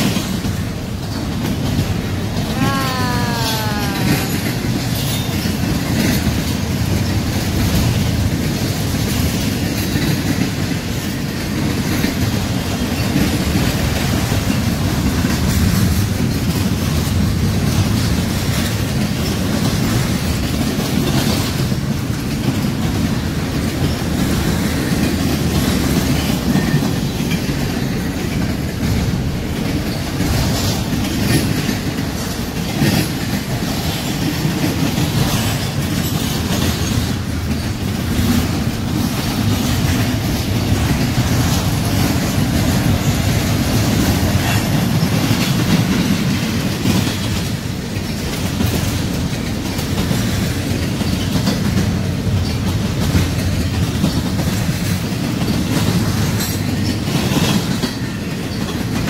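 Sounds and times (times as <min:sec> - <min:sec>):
train wheels rumbling on rail: 0:00.0 - 0:59.0
wheels clacking over rail joints: 0:00.0 - 0:59.0.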